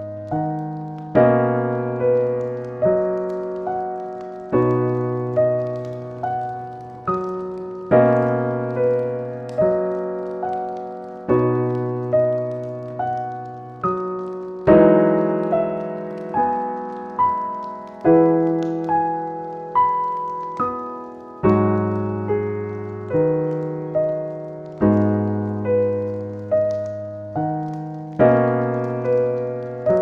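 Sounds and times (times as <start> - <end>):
slow solo piano music: 0.0 - 30.0.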